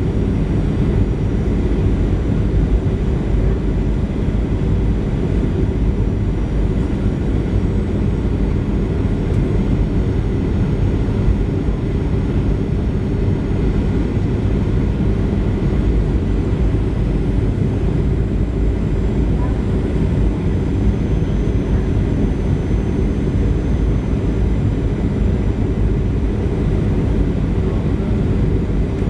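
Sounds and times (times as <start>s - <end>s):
airplane cabin airflow rush: 0.0s - 29.0s
jet engine drone: 0.0s - 29.0s.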